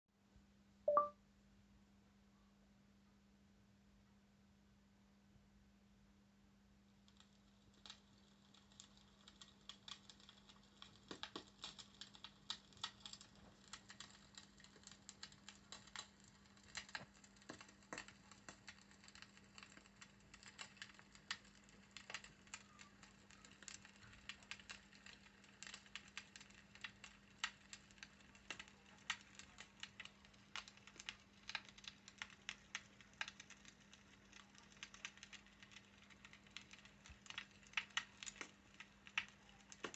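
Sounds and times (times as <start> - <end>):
crackling fire through a speaker: 6.5 - 39.9.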